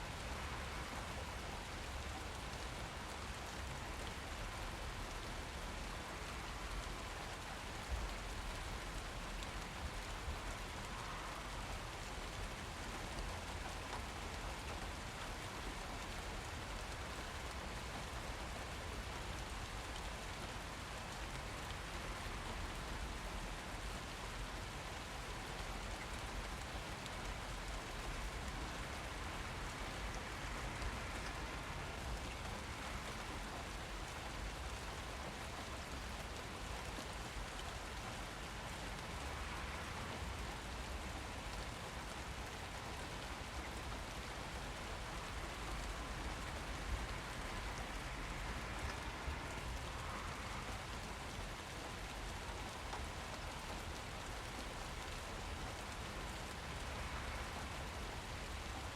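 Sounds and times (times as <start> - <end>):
rain pattering on surfaces: 0.0 - 58.9.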